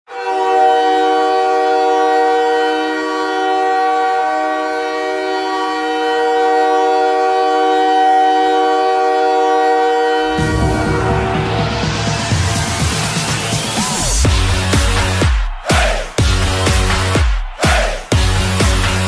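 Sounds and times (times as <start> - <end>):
goal horn blast: 0.1 - 19.0.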